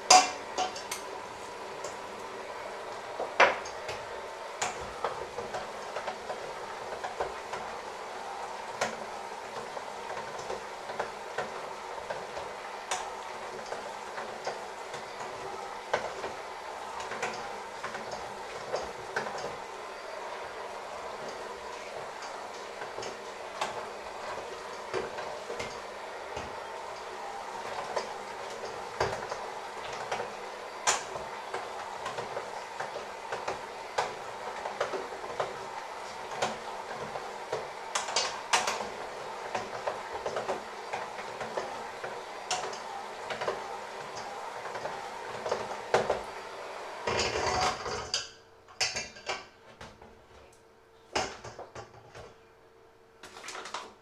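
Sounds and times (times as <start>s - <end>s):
electric hand mixer running: 0.0s - 48.0s.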